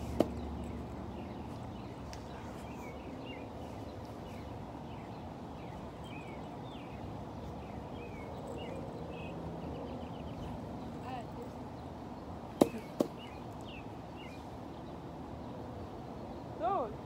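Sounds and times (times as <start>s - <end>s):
low outdoor background rumble: 0.0s - 17.0s
small birds chirping: 0.0s - 17.0s.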